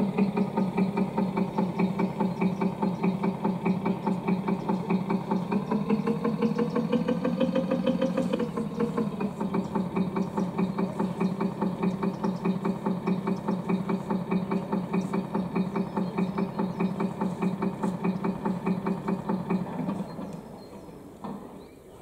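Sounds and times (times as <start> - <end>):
diesel engine idling chugging: 0.0 - 22.0.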